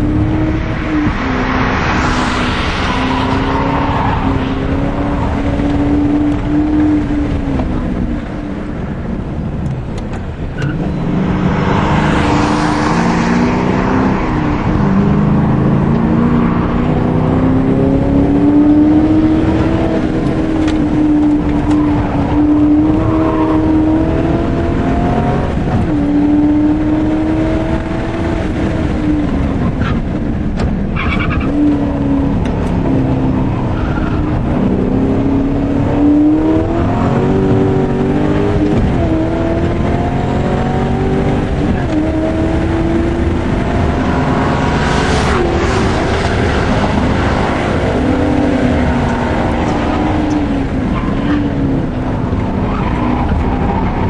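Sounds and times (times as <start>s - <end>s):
race car engine accelerating: 9.9s - 54.0s.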